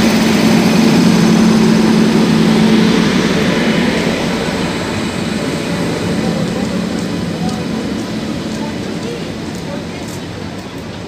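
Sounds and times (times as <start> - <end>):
electric locomotive humming: 0.0 - 11.0
passenger coaches rolling past: 0.0 - 11.0.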